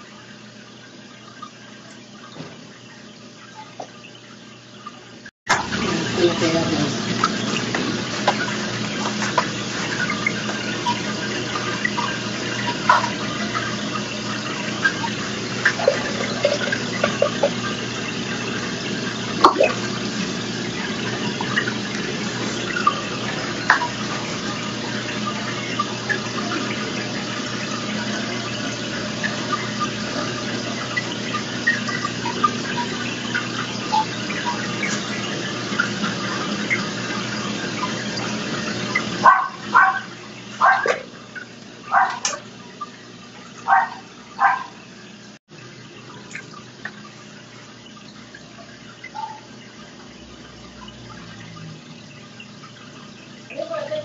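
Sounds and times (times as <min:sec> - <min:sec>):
low pump hum: 0:00.0 - 0:54.0
trickling water: 0:00.0 - 0:54.0
water splashes and bubbling: 0:00.0 - 0:54.0.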